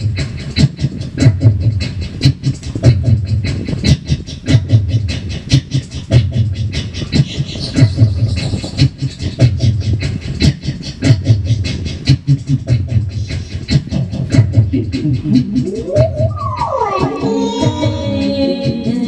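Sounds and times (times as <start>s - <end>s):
looped vocal beatbox rhythm: 0.0s - 19.0s.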